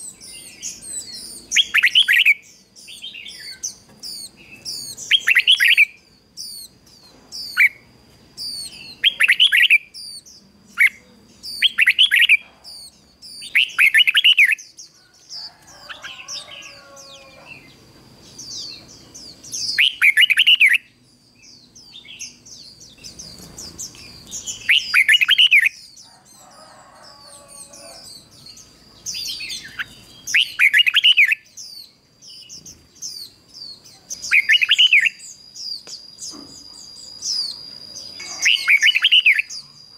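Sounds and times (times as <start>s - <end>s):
bulbuls singing warbled phrases: 0.0s - 39.9s.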